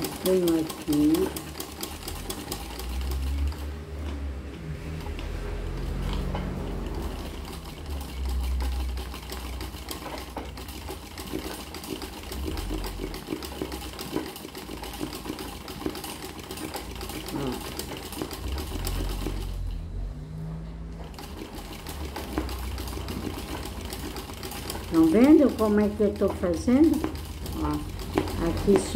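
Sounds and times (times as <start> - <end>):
sewing machine stitching fast: 0.0 - 4.2, 4.9 - 19.8, 20.9 - 28.9.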